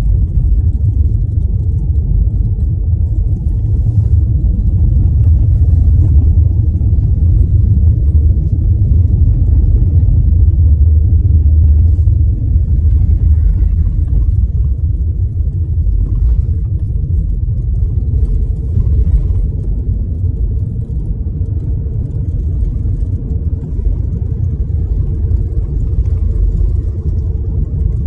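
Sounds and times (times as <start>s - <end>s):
car engine rumble: 0.0s - 28.0s
car tyre and road noise: 0.0s - 28.0s.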